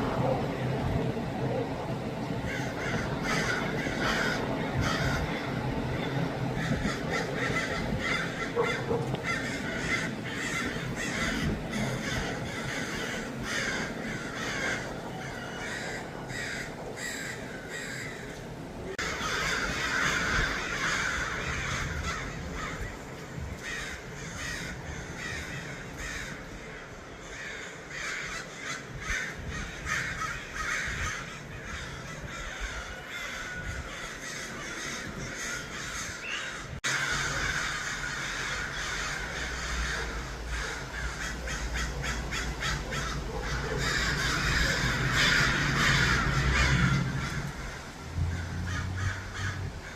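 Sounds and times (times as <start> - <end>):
flock of crows cawing: 2.4 - 49.9.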